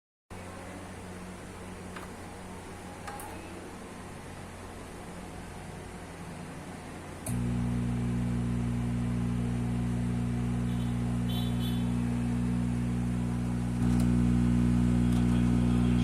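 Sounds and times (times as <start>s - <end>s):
low hum through speakers: 0.3s - 16.0s.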